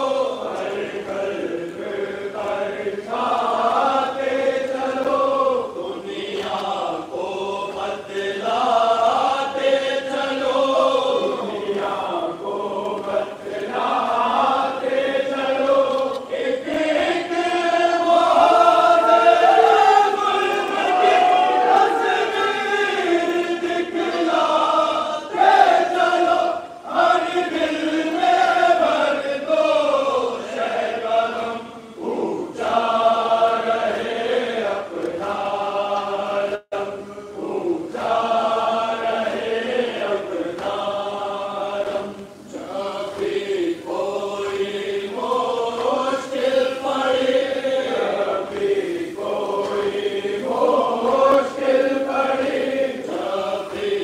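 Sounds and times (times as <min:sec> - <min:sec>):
men chanting in unison: 0:00.0 - 0:54.0.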